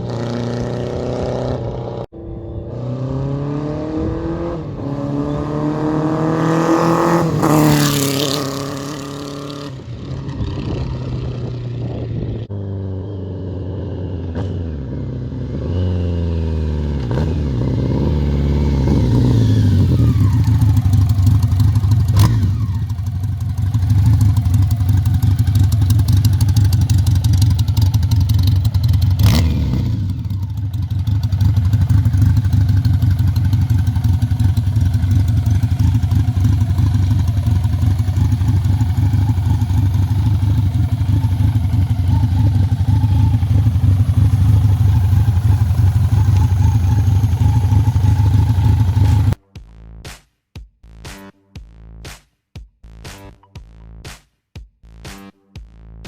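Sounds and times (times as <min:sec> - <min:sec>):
motorcycle engine revving: 0:00.0 - 0:49.4.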